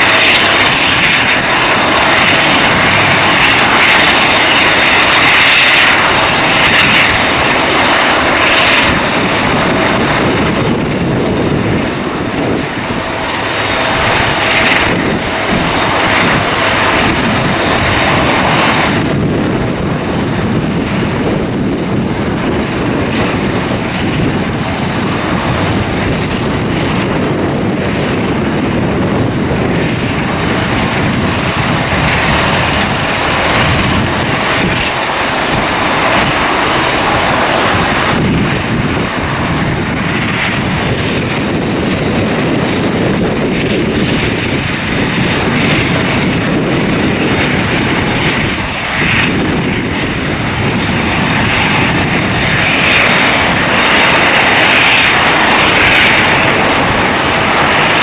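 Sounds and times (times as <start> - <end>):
jet engine roar: 0.0 - 58.0
wind buffeting microphone: 0.0 - 58.0.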